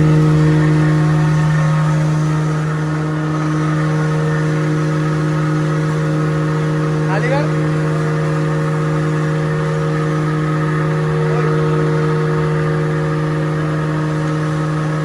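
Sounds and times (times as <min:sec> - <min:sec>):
grinding machine humming: 0:00.0 - 0:15.0.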